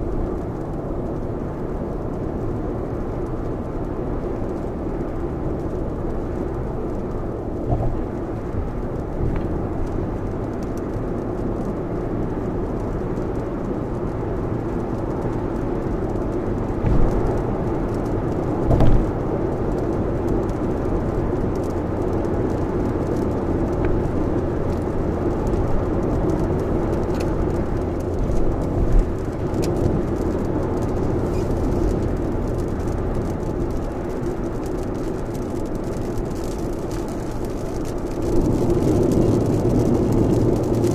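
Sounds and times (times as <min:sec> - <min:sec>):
heavy rain on car: 0:00.0 - 0:40.9
road noise inside car: 0:00.0 - 0:40.9.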